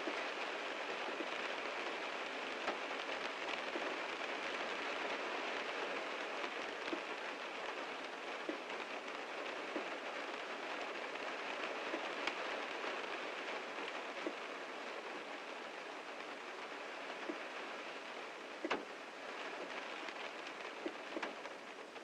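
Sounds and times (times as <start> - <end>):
heavy rain on a car: 0.0 - 22.0
raindrops striking sharply: 0.0 - 22.0.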